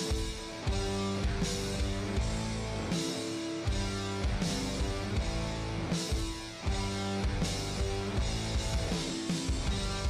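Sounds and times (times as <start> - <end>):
guitar chords: 0.0 - 10.0
steady drum beat: 0.0 - 10.0.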